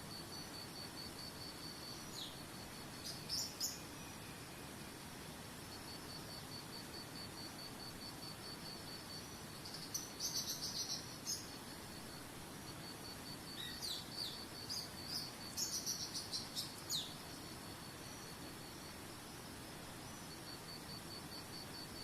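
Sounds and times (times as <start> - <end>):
faint hiss: 0.0 - 22.0
songbirds chirping: 0.4 - 5.0, 8.1 - 22.0.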